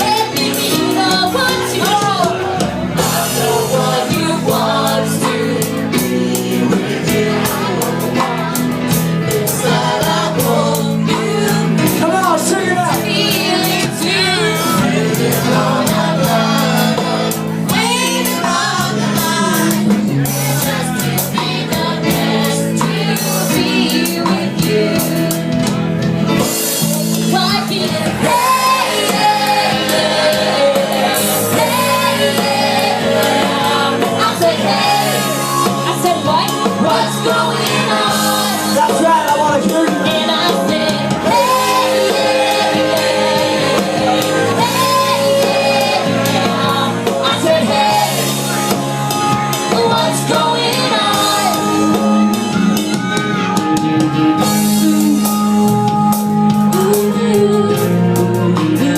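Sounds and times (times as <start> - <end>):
live band playing: 0.0 - 58.9.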